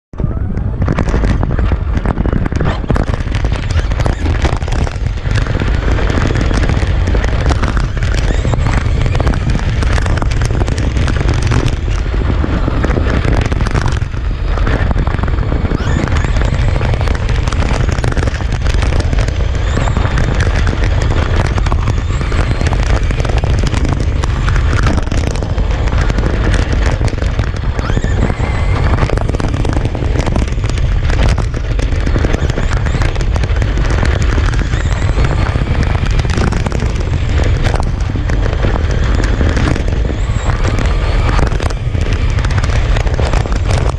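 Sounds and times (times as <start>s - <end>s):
tyre and wind rumble: 0.0s - 43.9s
faint high motor whine: 0.2s - 43.9s
crackle of small knocks: 0.8s - 43.9s.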